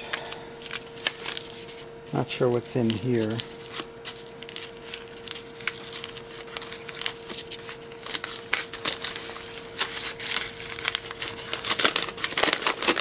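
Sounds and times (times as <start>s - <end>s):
paper package rustling: 0.1s - 13.0s.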